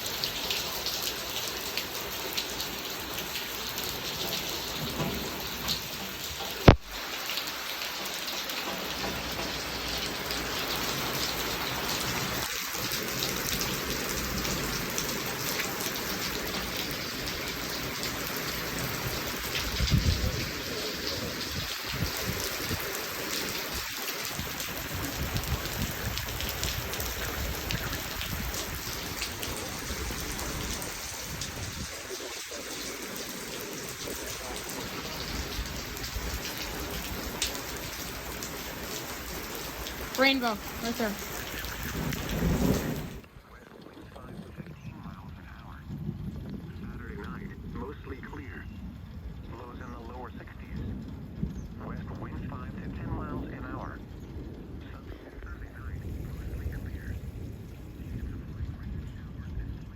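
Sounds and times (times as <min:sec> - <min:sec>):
rain falling: 0:00.0 - 0:59.9
low rumble of thunder: 0:00.1 - 0:06.8, 0:08.5 - 0:59.9.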